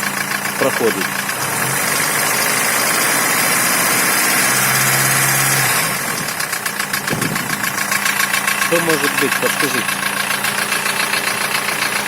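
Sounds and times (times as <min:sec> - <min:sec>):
car engine with ticking knock: 0:00.0 - 0:12.0.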